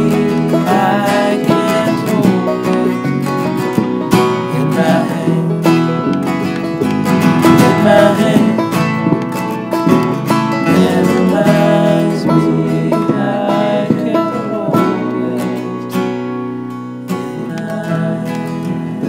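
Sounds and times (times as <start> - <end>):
acoustic guitar folk music: 0.0 - 19.0.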